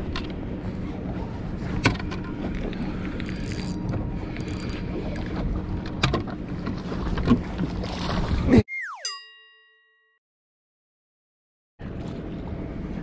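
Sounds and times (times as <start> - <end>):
wind: 0.0 - 9.7, 11.8 - 13.0.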